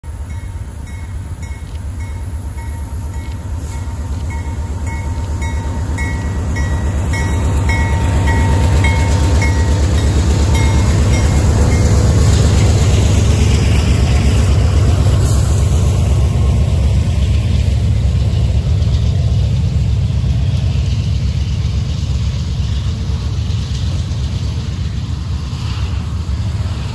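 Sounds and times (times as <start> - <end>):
diesel locomotive engine rumble: 0.0 - 26.9.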